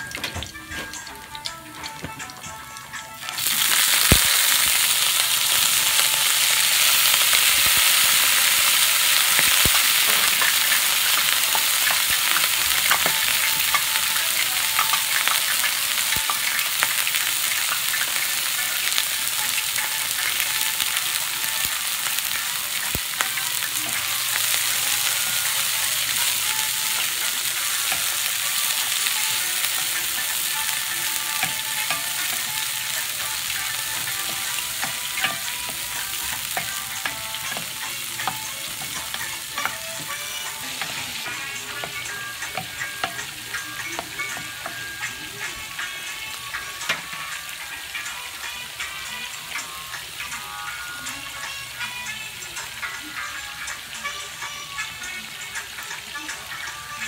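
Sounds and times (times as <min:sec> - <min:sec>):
vegetables sizzling in wok: 0:00.0 - 0:57.0.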